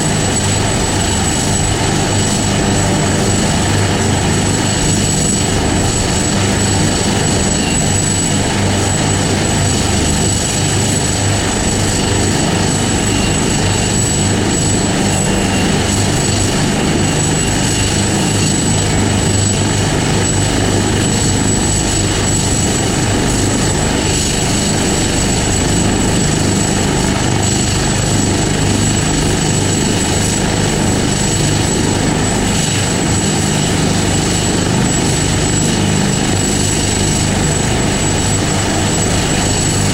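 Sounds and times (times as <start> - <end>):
helicopter rotor and engine: 0.0 - 39.9
steady high whine: 0.0 - 39.9.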